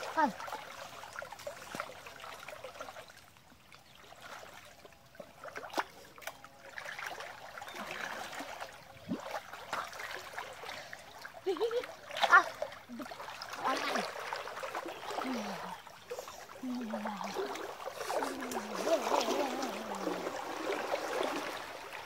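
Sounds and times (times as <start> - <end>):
creek water sloshing and trickling: 0.0 - 22.0
small sharp splashes: 0.0 - 22.0.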